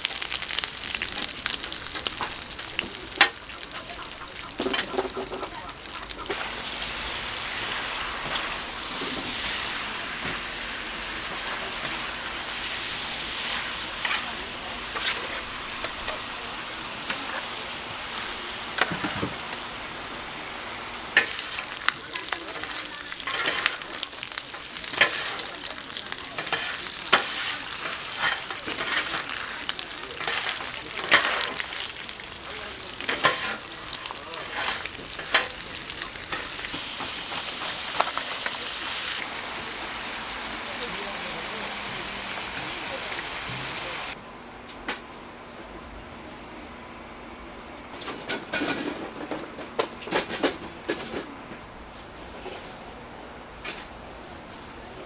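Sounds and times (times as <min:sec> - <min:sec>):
meat sizzling on griddle: 0:00.0 - 0:44.2.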